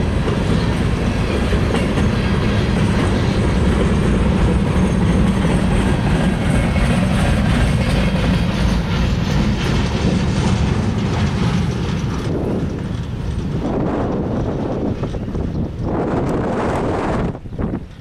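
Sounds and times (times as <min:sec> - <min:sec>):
train wheels clicking on rail joints: 0:00.0 - 0:18.0
wind buffeting microphone: 0:00.0 - 0:18.0.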